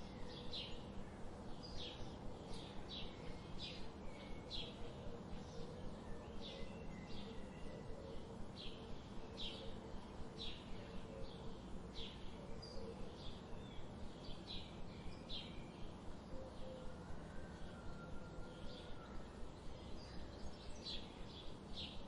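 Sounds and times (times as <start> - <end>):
steady background noise: 0.0 - 22.0
wild birds chirping: 0.0 - 22.0.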